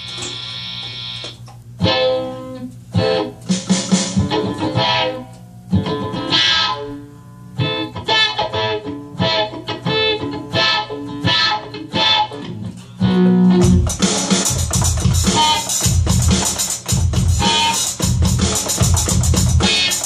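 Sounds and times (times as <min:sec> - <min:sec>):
electric guitar chords: 0:00.0 - 0:20.0.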